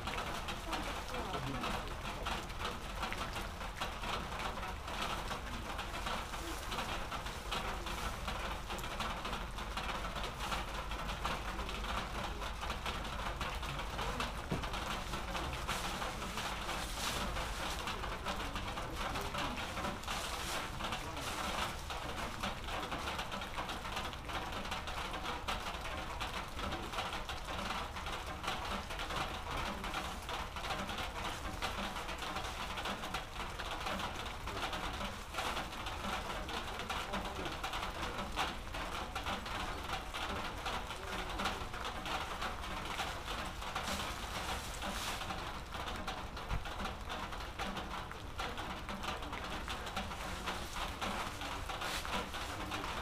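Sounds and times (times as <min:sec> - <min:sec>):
steady rain patter: 0:00.0 - 0:53.0.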